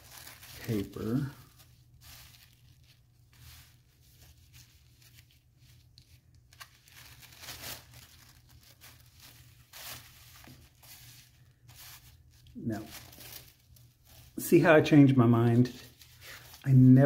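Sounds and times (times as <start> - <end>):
tissue paper crinkling and rustling: 0.0 - 17.0.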